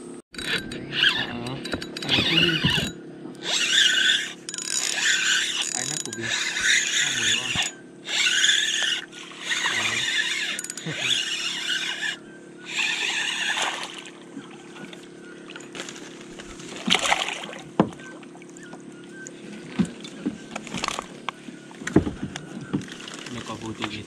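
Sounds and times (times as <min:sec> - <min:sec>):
fish splashing and thrashing: 0:00.3 - 0:24.0
fishing reel whirring: 0:00.4 - 0:23.6.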